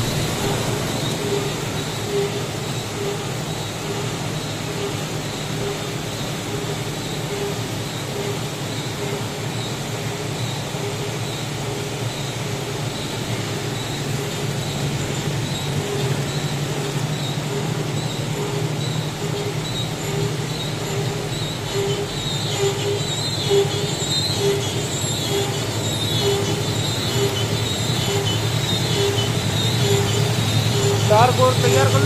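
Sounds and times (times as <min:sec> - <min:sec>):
lamination machine humming: 0:00.0 - 0:32.0.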